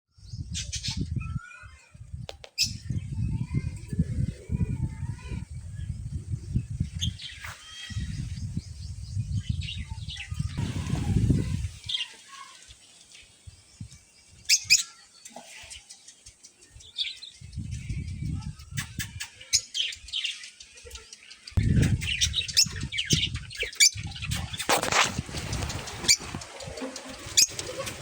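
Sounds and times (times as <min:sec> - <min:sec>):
birds chirping: 0:00.2 - 0:28.0.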